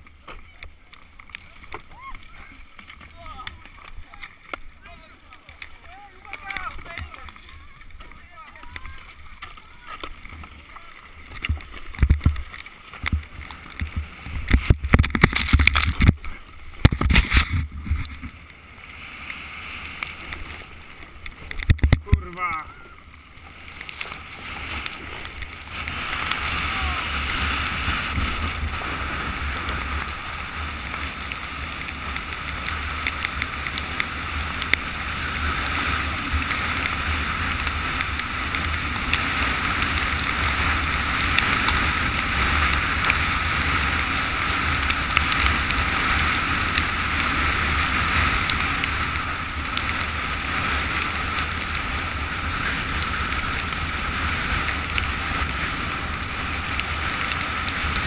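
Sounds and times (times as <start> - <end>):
skis running over snow: 0.0 - 58.0
wind over microphone: 0.0 - 58.0.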